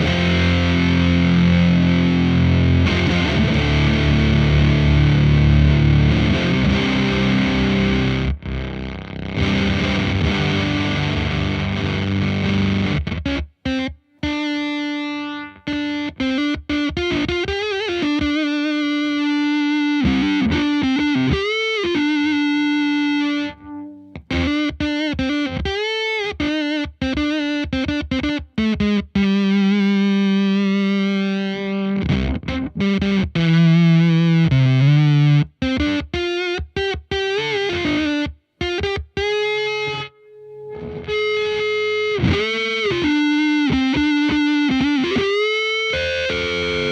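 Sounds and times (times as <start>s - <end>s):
fuzz electric guitar notes: 0.0s - 46.9s.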